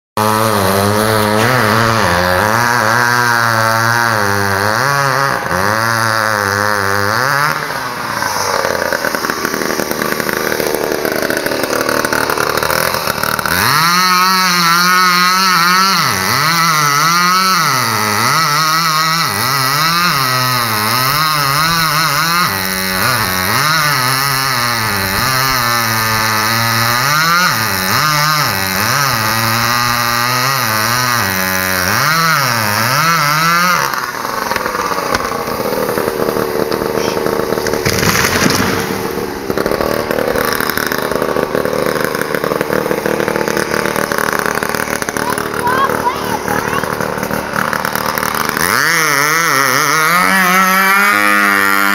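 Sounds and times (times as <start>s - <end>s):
chainsaw cutting tree trunk: 0.2s - 51.9s.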